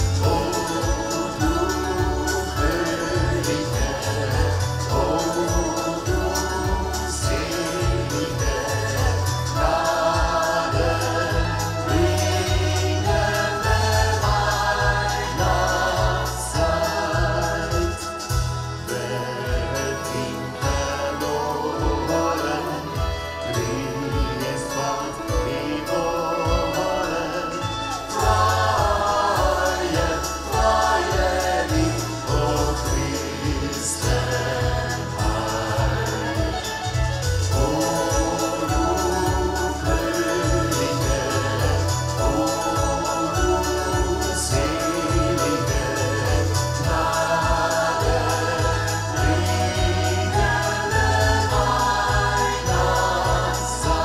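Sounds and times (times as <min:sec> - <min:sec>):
stepping bass line: 0:00.0 - 0:25.6, 0:26.4 - 0:54.0
choir singing: 0:00.0 - 0:54.0.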